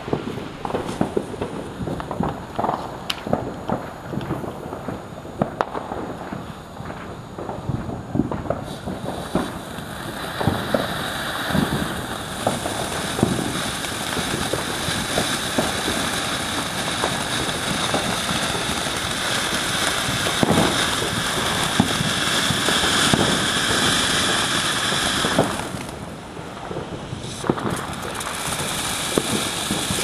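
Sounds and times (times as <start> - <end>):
firework fountain hissing and crackling: 0.0 - 30.0.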